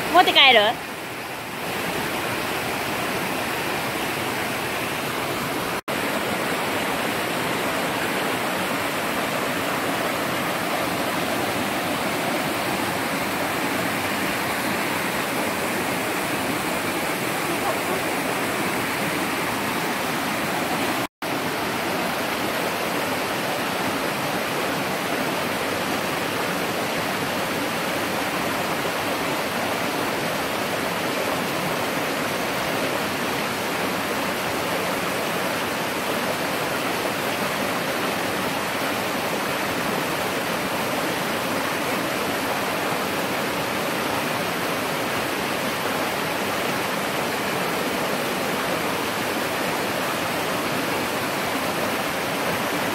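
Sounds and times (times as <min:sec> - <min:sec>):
stream rushing over boulders: 0:00.0 - 0:52.9.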